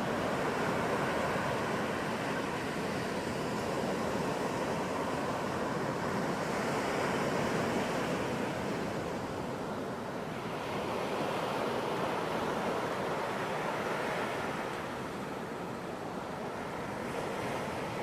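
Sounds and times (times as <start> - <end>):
ocean waves breaking on beach: 0.0 - 18.0.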